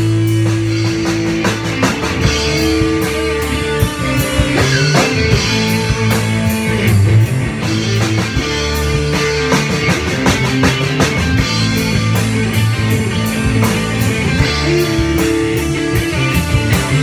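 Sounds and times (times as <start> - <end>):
drum kit beat: 0.0 - 17.0
electric guitar riffs: 0.0 - 17.0.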